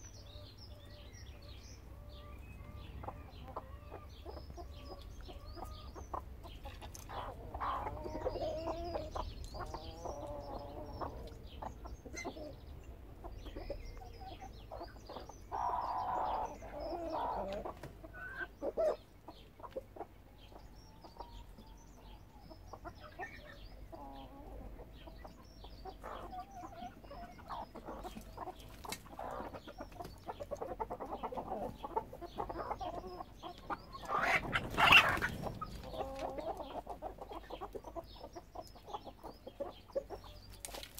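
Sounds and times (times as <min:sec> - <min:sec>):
hens and roosters clucking: 0:00.0 - 0:40.9.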